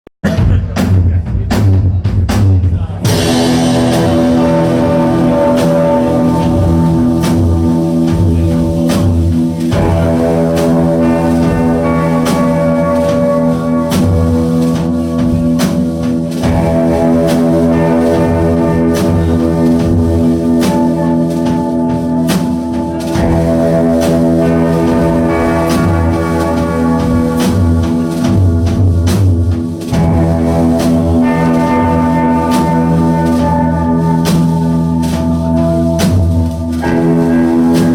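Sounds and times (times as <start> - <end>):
drum beat: 0.2 - 37.9
droning guitar chords: 3.1 - 37.9.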